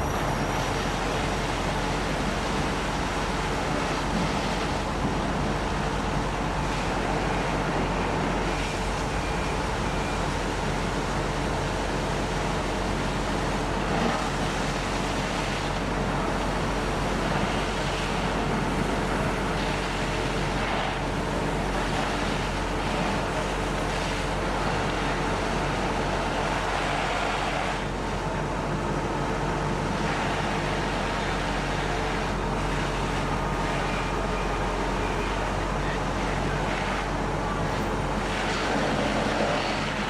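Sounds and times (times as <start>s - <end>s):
fire truck engine running: 0.0s - 40.0s.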